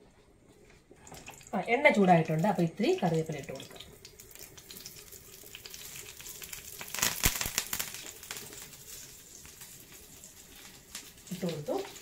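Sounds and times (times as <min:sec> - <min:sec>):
leaves crackling in hot oil: 0:01.0 - 0:12.0.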